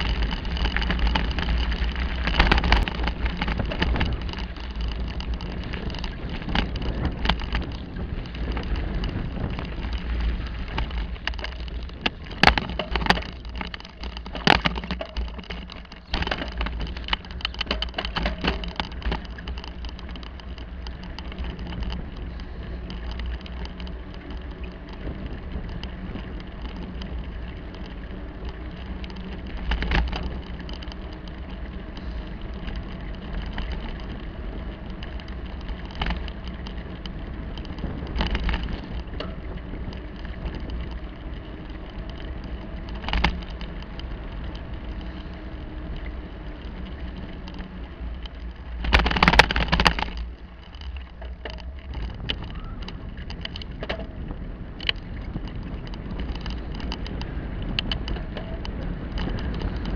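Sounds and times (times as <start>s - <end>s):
bicycle knocking over bumps: 0.0s - 59.9s
bicycle rumbling over paving: 0.0s - 59.9s.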